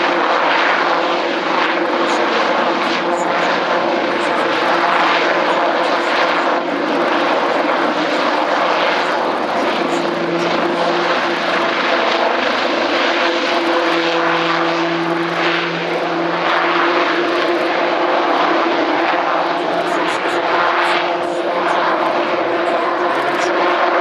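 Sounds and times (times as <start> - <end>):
helicopter drone flying past: 0.0 - 24.0.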